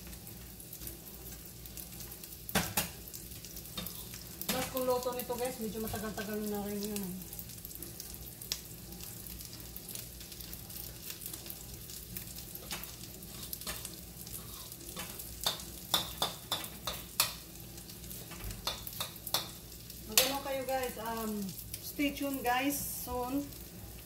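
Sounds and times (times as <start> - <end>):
patties sizzling in oil: 0.0 - 24.0.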